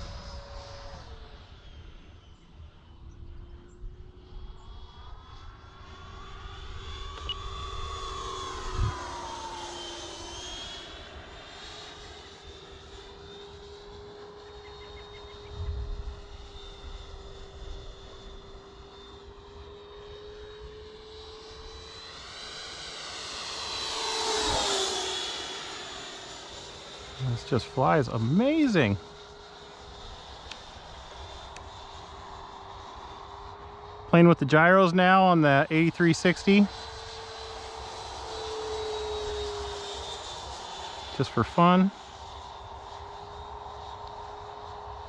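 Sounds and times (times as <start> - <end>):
electric jet whining in flight: 0.0 - 45.0.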